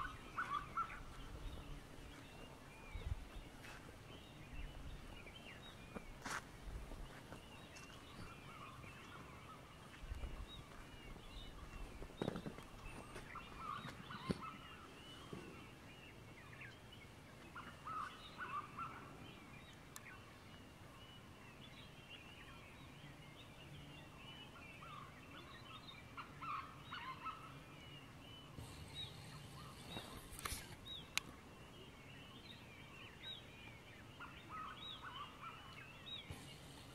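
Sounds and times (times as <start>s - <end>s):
birds chirping and calling: 0.0s - 36.9s.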